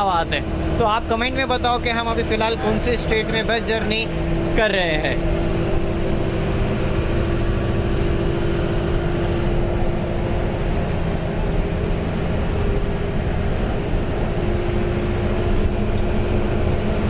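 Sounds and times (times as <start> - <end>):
bus engine and road rumble: 0.0 - 17.0
constant low hum: 0.0 - 17.0.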